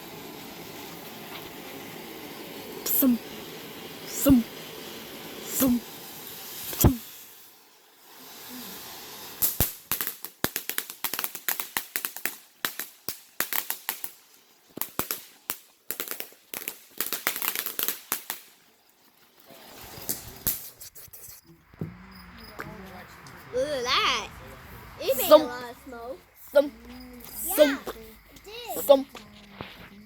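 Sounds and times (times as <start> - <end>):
firework cracks and pops: 0.0 - 21.9, 26.8 - 30.0.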